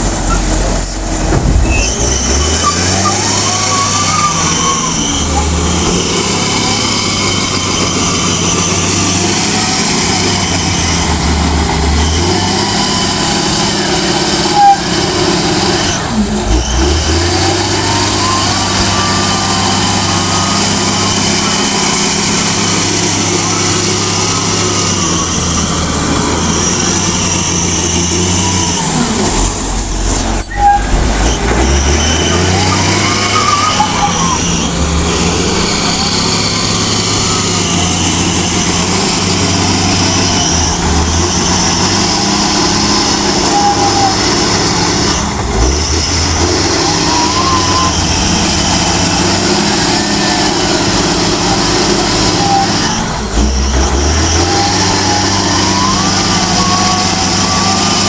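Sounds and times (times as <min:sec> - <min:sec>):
wheel loader diesel engine: 0:00.0 - 0:58.0.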